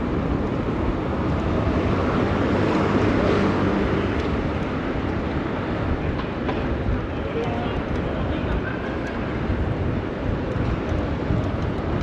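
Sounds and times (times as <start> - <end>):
city traffic rumble: 0.0 - 12.0
wind noise on microphone: 0.0 - 12.0.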